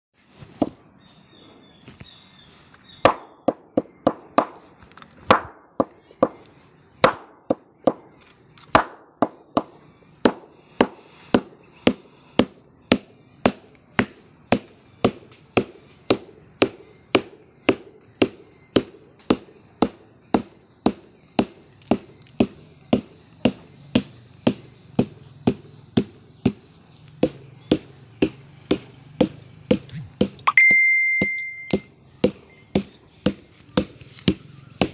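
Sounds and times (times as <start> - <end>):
high drone of insects: 0.2 - 34.9
mallet beating palm stalk: 3.0 - 4.6, 7.0 - 8.1, 8.7 - 34.9.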